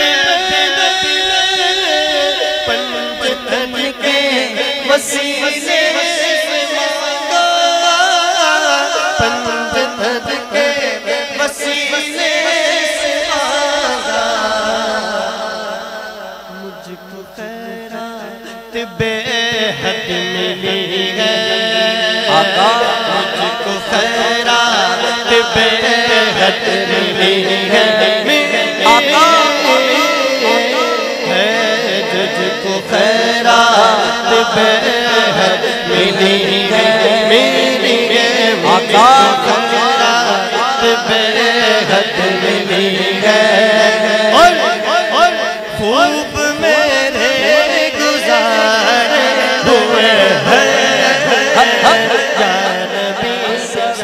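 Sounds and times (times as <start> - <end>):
man singing: 0.0 - 54.0.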